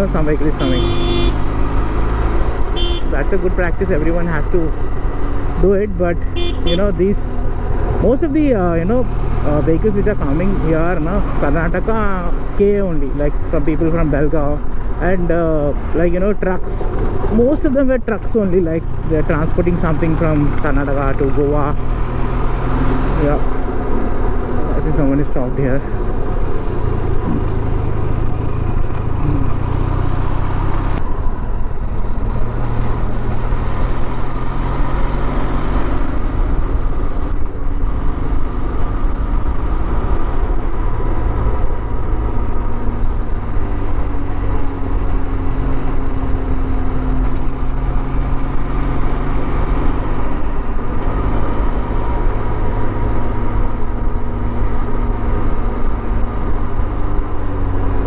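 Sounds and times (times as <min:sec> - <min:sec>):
motorcycle engine hum: 0:00.0 - 0:58.0
road noise: 0:00.0 - 0:58.0.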